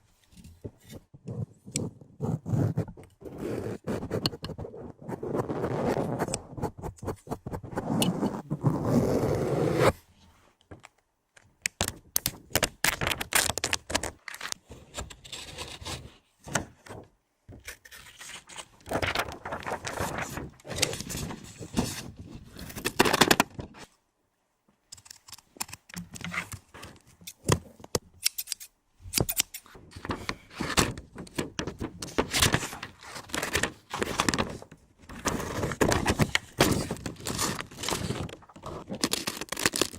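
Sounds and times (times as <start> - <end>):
objects handled at microphone: 0.0 - 3.4, 9.8 - 24.0, 24.7 - 39.9.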